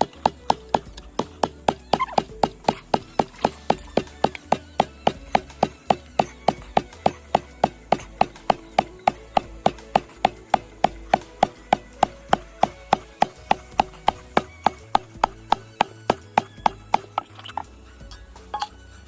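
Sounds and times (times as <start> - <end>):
woodblock percussive beat: 0.0 - 18.7.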